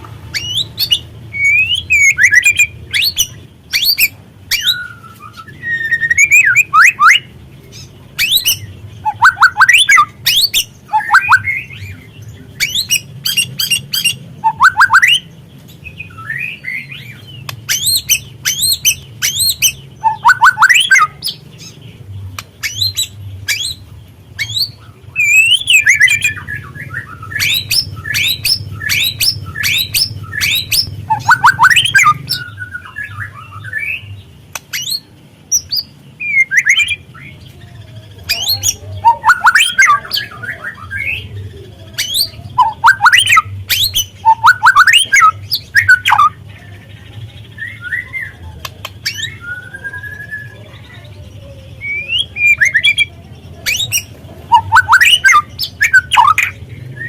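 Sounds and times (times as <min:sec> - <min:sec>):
bird singing crackling notes: 0:00.0 - 0:57.0.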